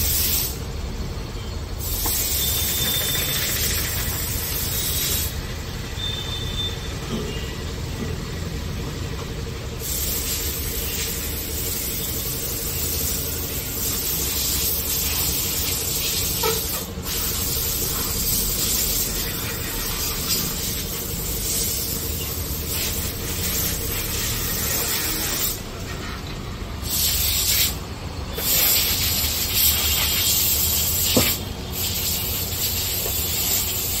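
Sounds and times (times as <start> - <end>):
high-pressure spray gun hissing: 0.0 - 0.7, 1.8 - 5.4, 9.8 - 25.7, 26.8 - 34.0.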